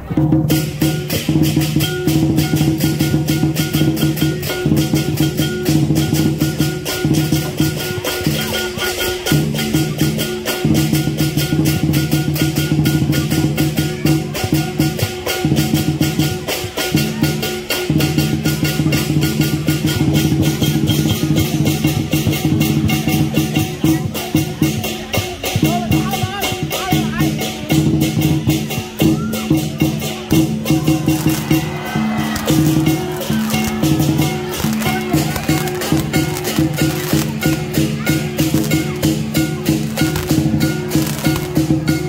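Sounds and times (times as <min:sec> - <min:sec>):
big drum beating: 0:00.0 - 0:42.0.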